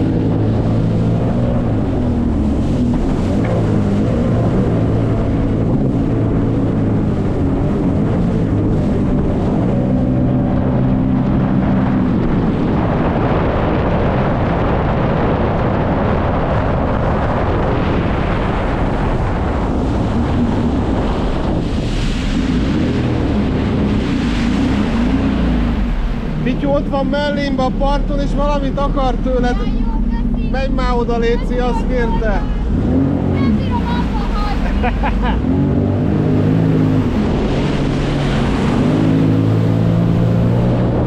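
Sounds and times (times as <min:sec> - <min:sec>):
jet ski engine running: 0:00.0 - 0:41.0
rush of wind and water: 0:00.0 - 0:41.0
wind buffeting microphone: 0:00.0 - 0:41.0.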